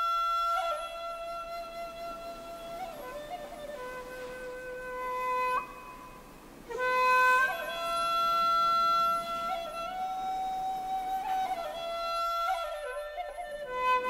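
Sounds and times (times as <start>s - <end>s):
solo flute melody: 0.0s - 14.0s.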